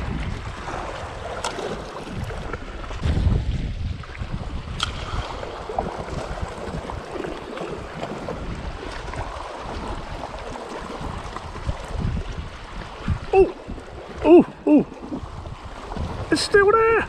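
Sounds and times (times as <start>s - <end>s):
waves lapping against rocks: 0.0s - 17.0s
wind buffeting microphone: 0.0s - 17.0s.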